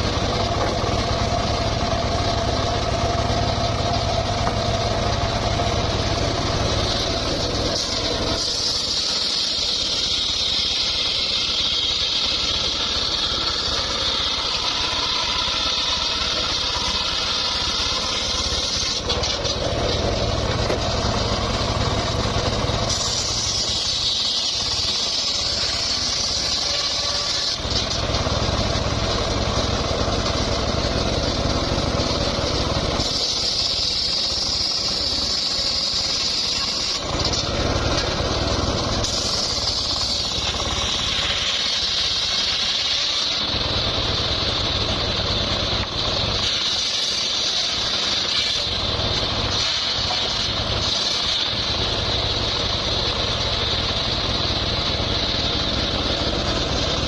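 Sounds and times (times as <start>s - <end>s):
saw blade whine cutting wood: 0.0s - 57.0s
saw engine drone: 0.0s - 57.0s.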